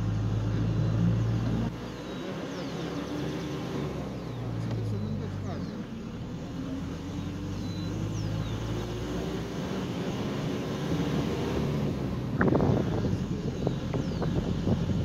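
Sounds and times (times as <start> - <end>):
tyres on gravel road: 0.0 - 15.0
vehicle engine running: 0.0 - 15.0.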